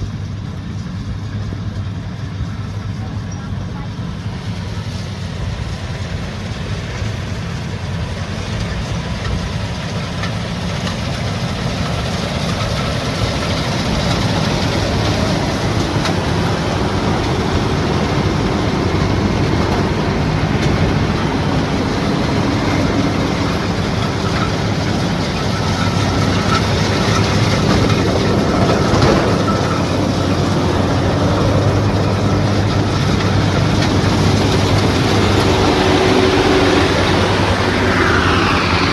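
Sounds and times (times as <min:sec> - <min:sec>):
heavy farm machine engine running: 0:00.0 - 0:38.9.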